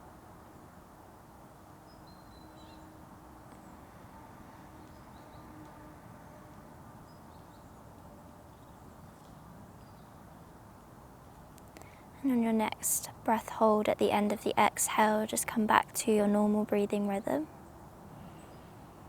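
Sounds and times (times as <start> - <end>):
low outdoor hum: 0.0 - 19.0.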